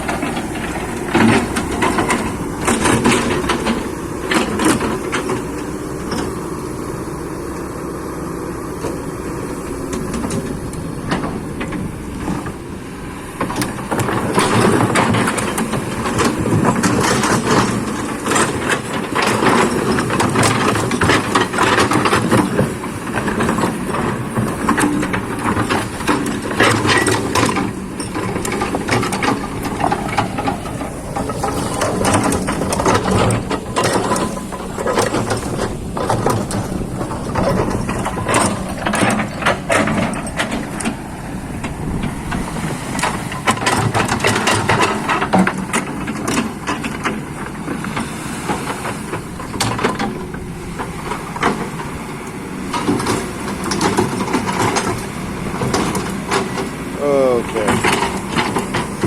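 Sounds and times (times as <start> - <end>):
metal knocks and clanks: 0.0 - 6.4, 13.4 - 52.0, 52.6 - 59.0
excavator diesel engine running: 0.0 - 59.0.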